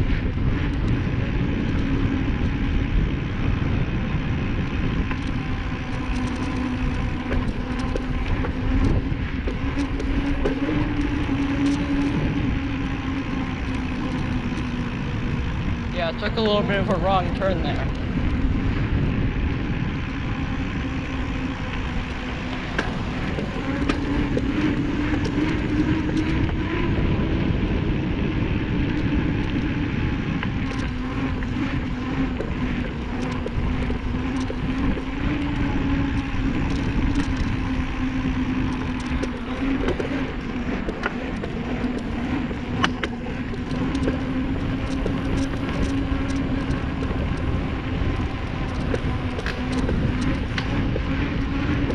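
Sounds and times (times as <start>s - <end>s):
small clicks and rattles: 0.0s - 51.9s
wavering hum: 0.0s - 51.9s
wind and road rumble: 0.0s - 51.9s.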